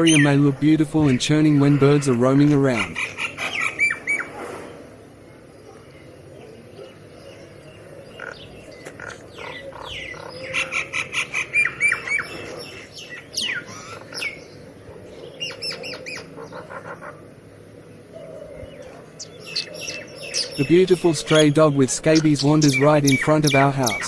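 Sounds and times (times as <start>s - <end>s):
birds squawking and chirping: 0.0s - 24.0s.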